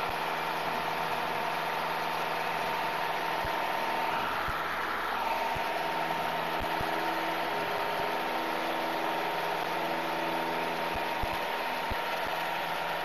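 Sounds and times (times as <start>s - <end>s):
airplane piston engine running: 0.0s - 13.0s.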